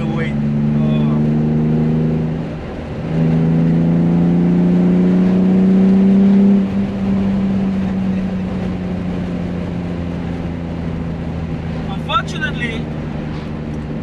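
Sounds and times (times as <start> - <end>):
car engine from inside cabin: 0.0 - 14.0.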